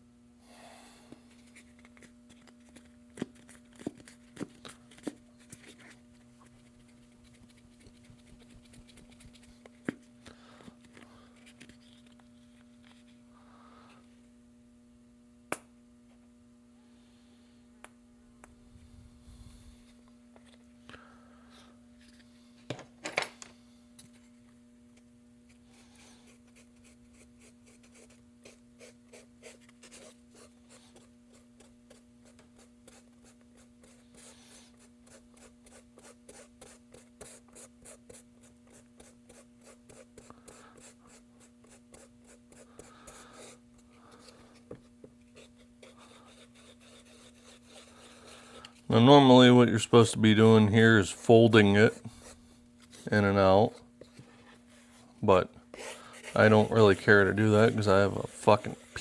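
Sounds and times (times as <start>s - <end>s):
steady hum: 4.0s - 59.0s.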